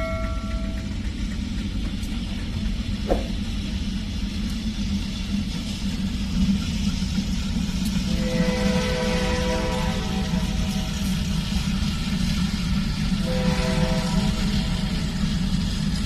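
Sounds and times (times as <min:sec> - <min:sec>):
locomotive engine rumbling: 0:00.0 - 0:16.0.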